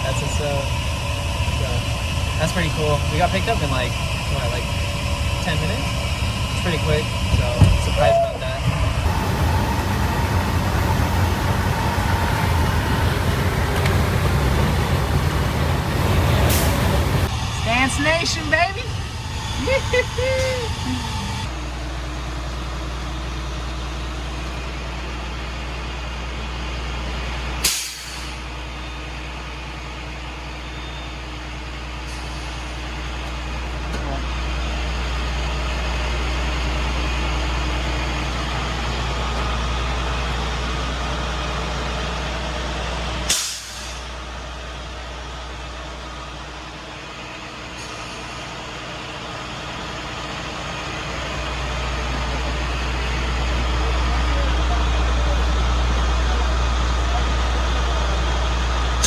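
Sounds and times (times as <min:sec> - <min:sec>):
road noise: 0:00.0 - 0:59.0
truck engine rumbling: 0:00.0 - 0:59.0.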